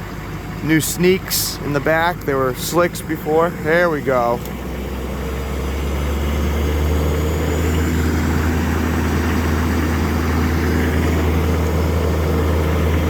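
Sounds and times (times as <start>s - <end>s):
diesel engine idling: 0.0s - 13.0s
turbo whine: 0.0s - 13.0s.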